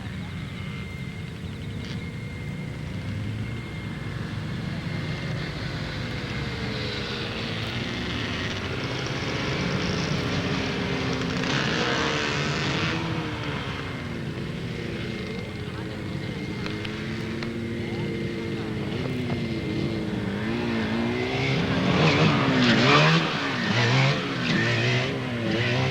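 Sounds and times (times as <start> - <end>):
motorcycle engines revving: 0.0 - 25.9
motorcycle passing: 0.0 - 25.9.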